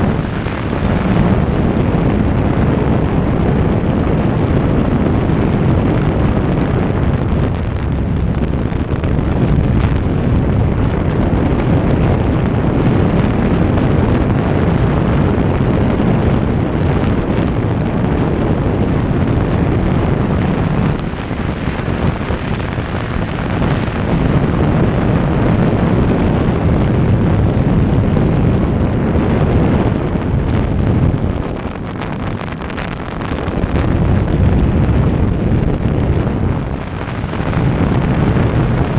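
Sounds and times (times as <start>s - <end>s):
jet boat engine and water rush: 0.0s - 38.9s
wind buffeting microphone: 0.0s - 38.9s.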